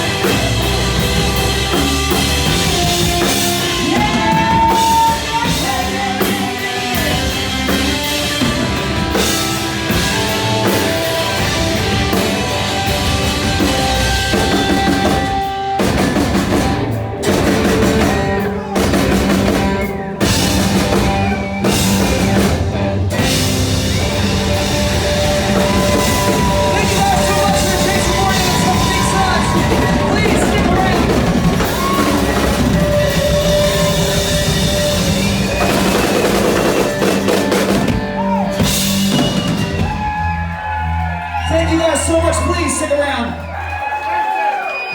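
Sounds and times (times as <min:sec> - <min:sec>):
rock band playing live: 0:00.0 - 0:44.9.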